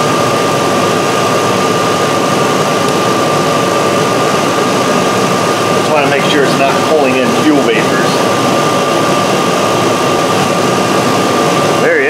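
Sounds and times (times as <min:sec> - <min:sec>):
engine idling: 0:00.0 - 0:12.0
high whine: 0:00.0 - 0:12.0.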